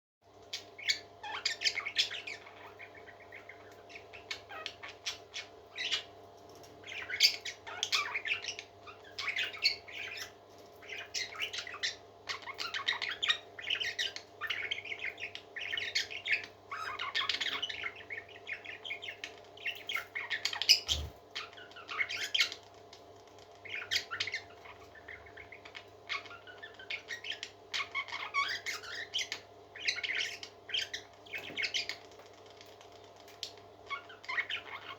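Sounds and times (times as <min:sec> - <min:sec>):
parrots squawking and chirping: 0:00.5 - 0:22.6, 0:23.6 - 0:32.1, 0:33.9 - 0:34.9.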